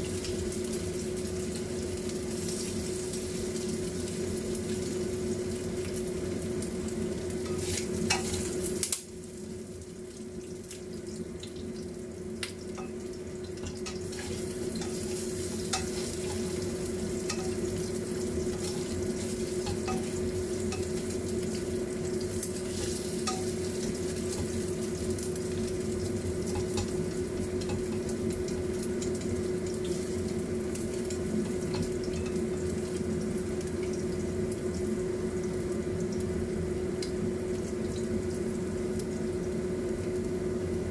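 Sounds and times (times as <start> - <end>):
oil bubbling and crackling: 0.0 - 40.9
steady hum: 0.0 - 40.9.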